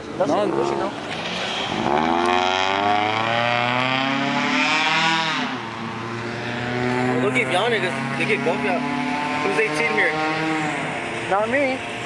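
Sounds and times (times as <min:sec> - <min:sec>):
car engine accelerating hard: 0:00.3 - 0:12.0.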